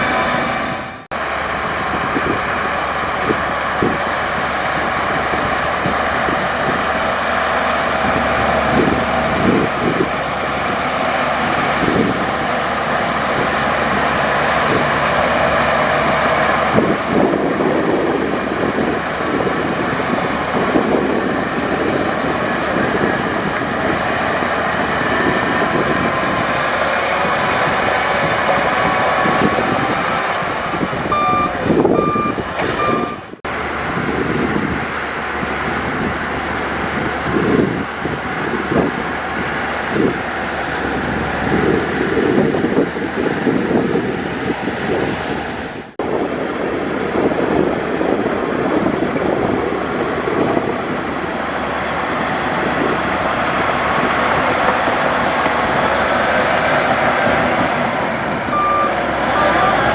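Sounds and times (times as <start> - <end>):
diesel machinery running under load: 0.0 - 59.9.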